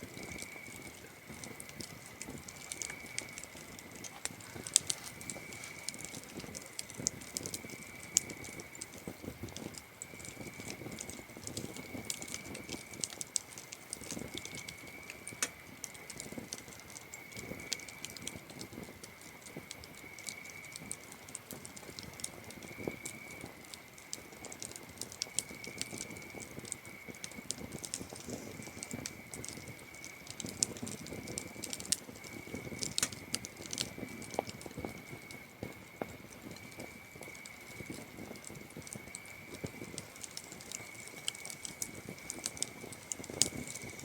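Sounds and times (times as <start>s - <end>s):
campfire crackling and popping: 0.0s - 44.0s
crickets trilling: 0.0s - 44.0s.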